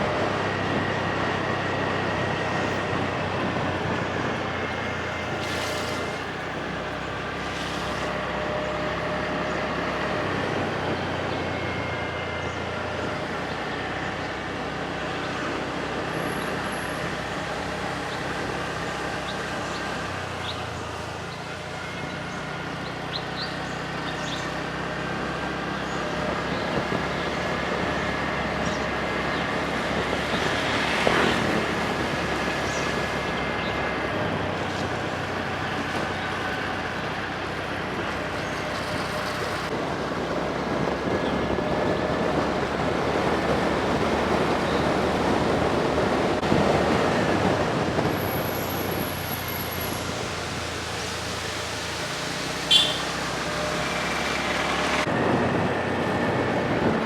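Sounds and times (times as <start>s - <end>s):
motorcycle engine: 0.0s - 56.1s
wind and road noise: 0.0s - 57.0s.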